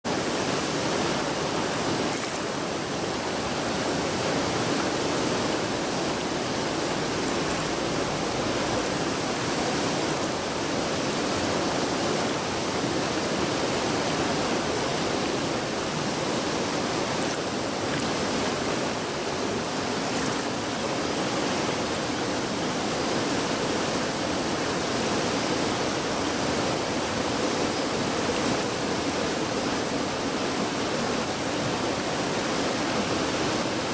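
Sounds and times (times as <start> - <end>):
river in flood rushing: 0.0 - 33.9.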